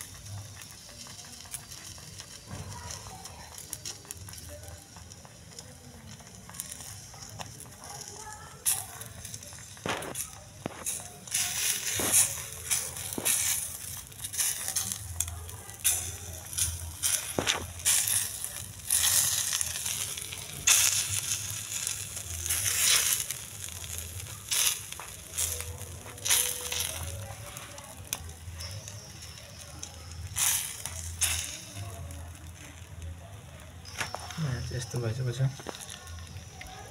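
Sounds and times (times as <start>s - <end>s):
eggs sizzling in a pan: 0.0s - 36.9s.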